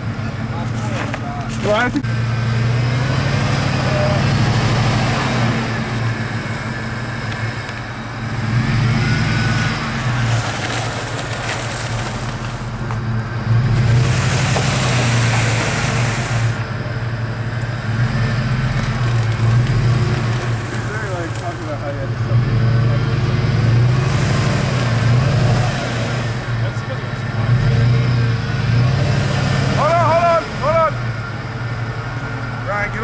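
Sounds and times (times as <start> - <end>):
off-road vehicle engine: 0.0 - 33.0.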